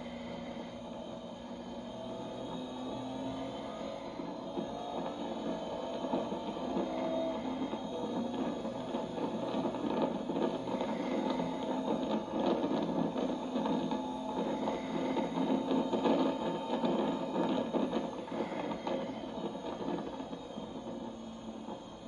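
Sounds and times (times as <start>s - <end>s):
race car engine at speed: 0.0s - 22.0s.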